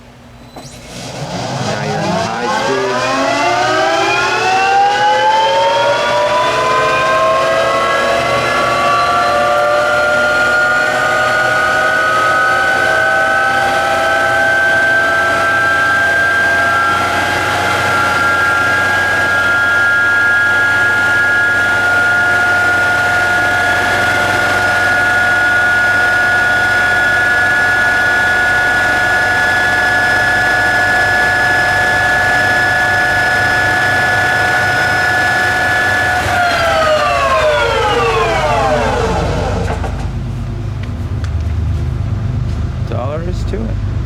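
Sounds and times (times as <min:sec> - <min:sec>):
lathe spindle whining: 0:00.0 - 0:44.0.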